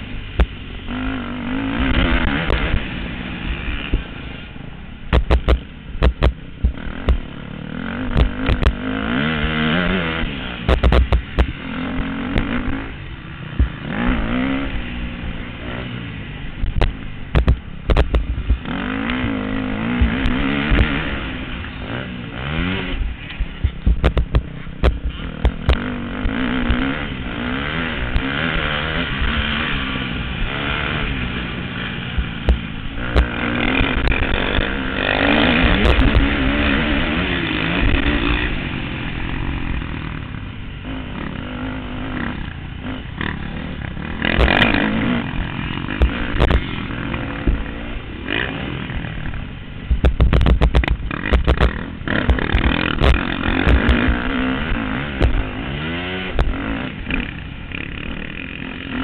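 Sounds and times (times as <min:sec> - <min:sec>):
motorbike engines revving and passing: 0:00.0 - 0:59.0
sharp clatter: 0:05.1 - 0:14.4, 0:16.6 - 0:21.8, 0:22.8 - 0:27.1, 0:27.8 - 0:48.5, 0:49.2 - 0:59.0.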